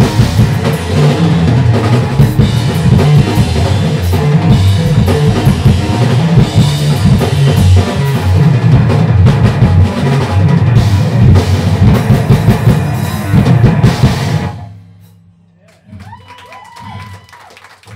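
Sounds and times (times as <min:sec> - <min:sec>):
rock band playing loud: 0:00.0 - 0:15.2
drum kit and cymbals: 0:00.0 - 0:15.3.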